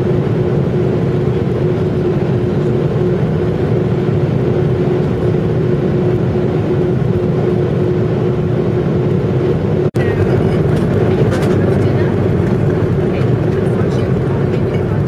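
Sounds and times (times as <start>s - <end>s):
constant droning tone: 0.0s - 15.0s
jet cabin engine roar: 0.0s - 15.0s.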